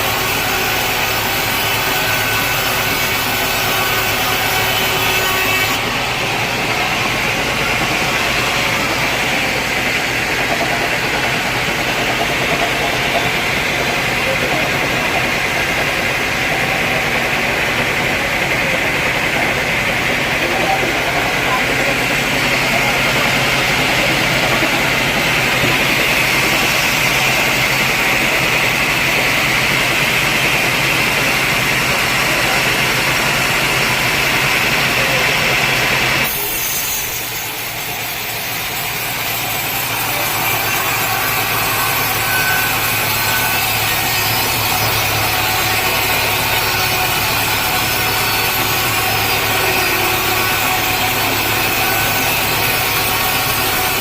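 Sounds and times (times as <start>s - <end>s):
machine hum: 0.0s - 36.4s, 37.3s - 54.0s
saw blade grinding through wood: 0.0s - 54.0s.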